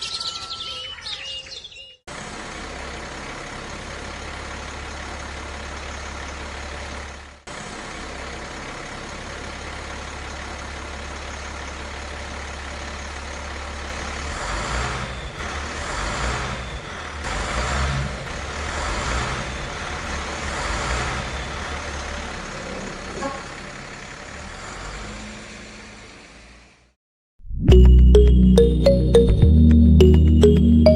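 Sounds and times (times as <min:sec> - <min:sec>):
vehicle engine droning and surging: 0:02.1 - 0:26.9.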